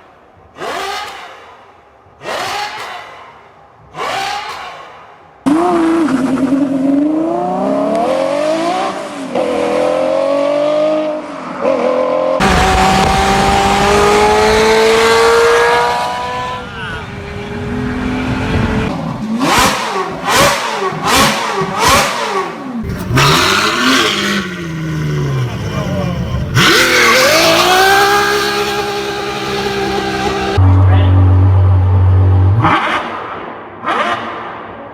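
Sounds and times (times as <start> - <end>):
sports car engine revving: 0.4 - 34.8.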